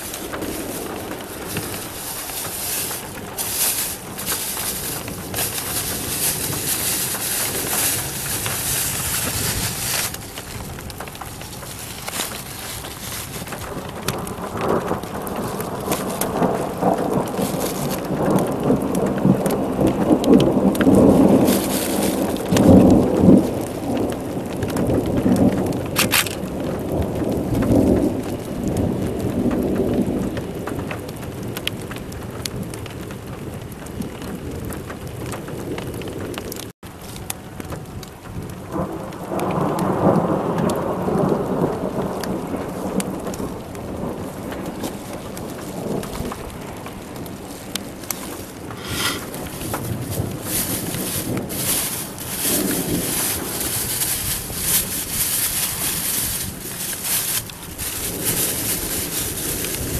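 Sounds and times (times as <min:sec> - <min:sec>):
rolling rumble of thunder: 0:00.0 - 0:12.1, 0:13.1 - 0:36.6, 0:38.2 - 0:54.8
heavy rain hissing: 0:00.0 - 0:29.4, 0:39.3 - 0:59.9
raindrops ticking: 0:00.0 - 0:59.9.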